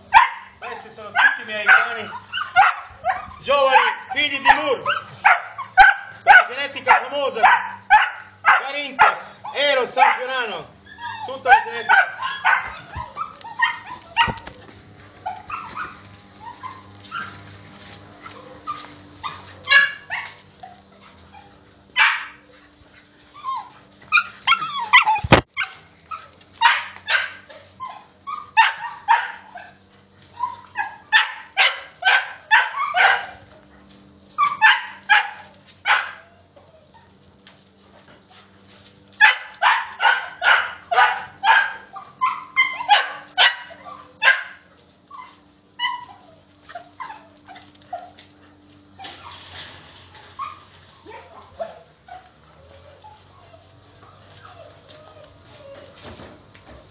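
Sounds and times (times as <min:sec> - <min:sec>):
puppies barking and yipping: 0:00.0 - 0:56.9.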